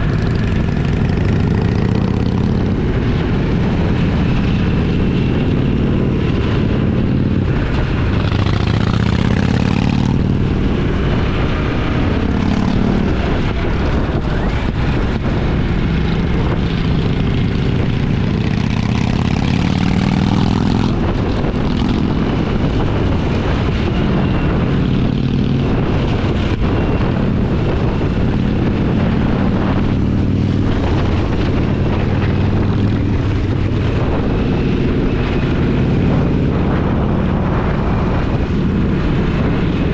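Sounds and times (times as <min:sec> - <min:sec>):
motorcycle engine revving: 0:00.0 - 0:39.9
road noise: 0:00.0 - 0:39.9
wind noise: 0:00.0 - 0:39.9.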